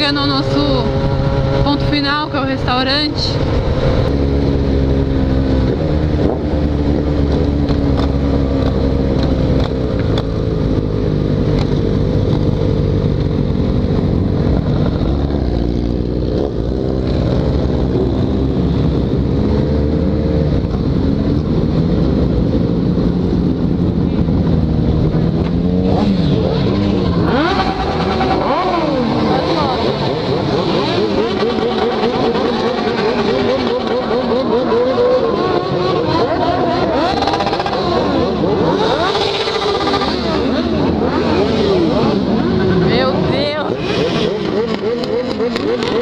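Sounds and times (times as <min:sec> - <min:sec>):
motorcycle engine cruising: 0:00.0 - 0:46.0
motorcycle engines revving: 0:00.0 - 0:46.0.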